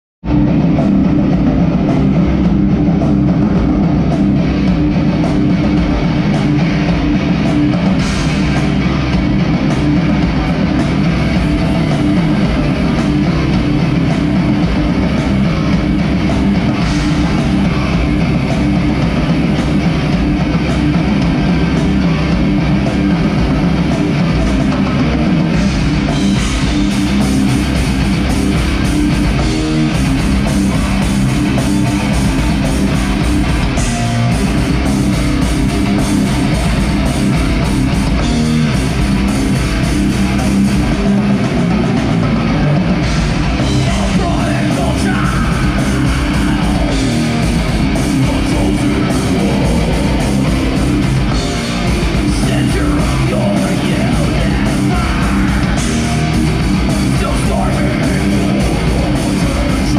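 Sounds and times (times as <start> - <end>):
bass guitar: 0.2 - 59.9
drum kit: 0.2 - 59.9
electric guitars: 0.2 - 59.9.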